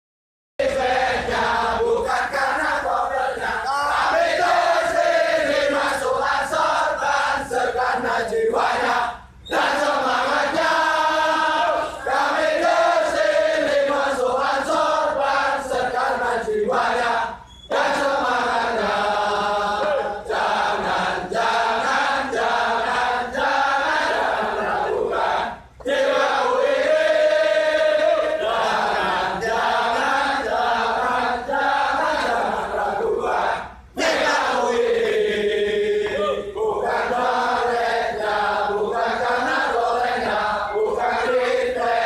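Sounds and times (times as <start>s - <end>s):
men chanting in unison: 0.6s - 42.0s.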